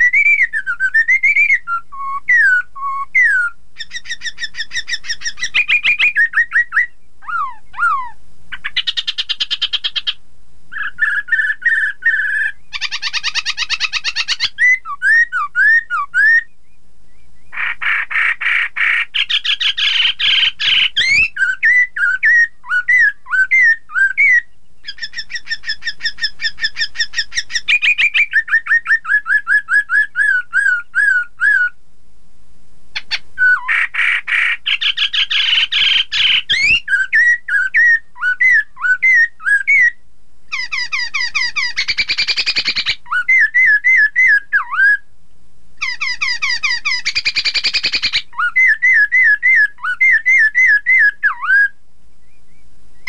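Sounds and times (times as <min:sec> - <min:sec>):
bird chattering: 0:00.0 - 0:16.4, 0:17.5 - 0:31.7, 0:33.0 - 0:39.9, 0:40.5 - 0:45.0, 0:45.8 - 0:51.6
bird singing whistled notes: 0:00.0 - 0:31.8, 0:33.0 - 0:45.1, 0:45.8 - 0:53.0.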